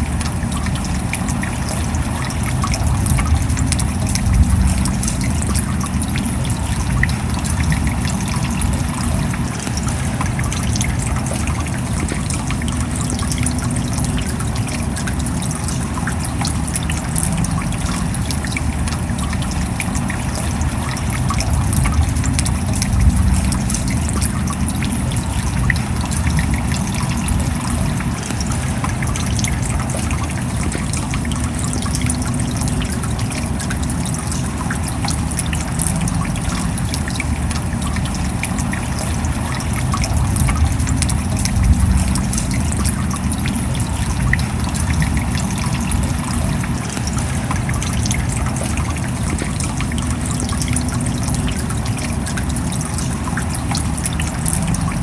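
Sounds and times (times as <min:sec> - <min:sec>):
drops ticking: 0:00.0 - 0:55.0
steady rain: 0:00.0 - 0:55.0
water trickling: 0:00.0 - 0:55.0.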